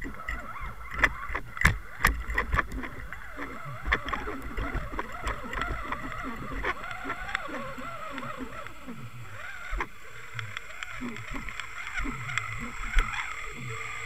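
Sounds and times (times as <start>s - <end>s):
underwater water noise: 0.0s - 14.0s.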